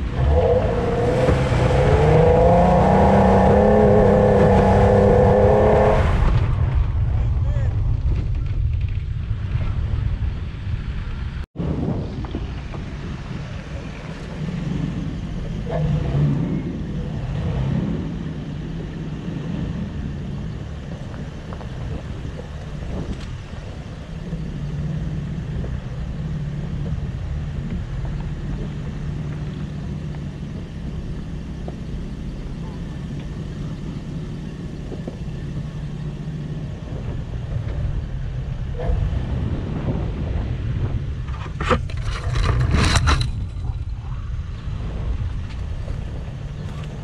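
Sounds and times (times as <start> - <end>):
car engine rumble off-road: 0.0 - 47.0
wind on microphone: 0.0 - 47.0.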